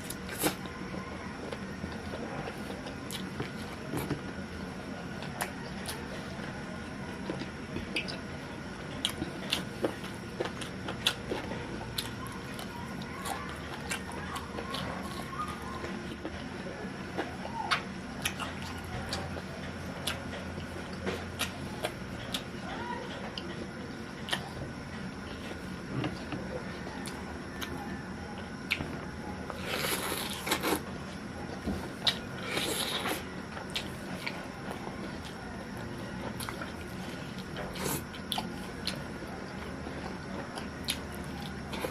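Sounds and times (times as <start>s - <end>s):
person chewing food: 0.0s - 27.8s, 28.4s - 41.9s
crackly crunching: 0.0s - 41.9s
steady background noise: 0.0s - 41.9s.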